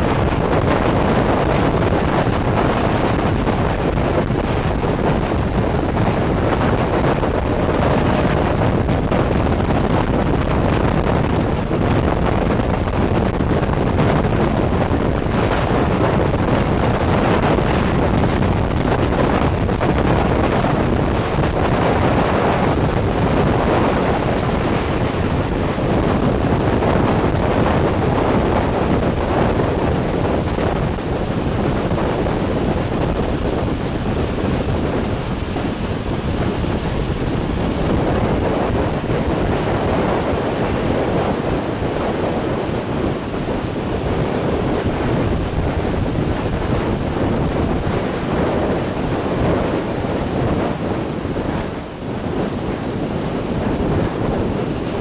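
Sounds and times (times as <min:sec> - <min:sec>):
train running noise: 0:00.0 - 0:55.0
wind noise on microphone: 0:00.0 - 0:55.0.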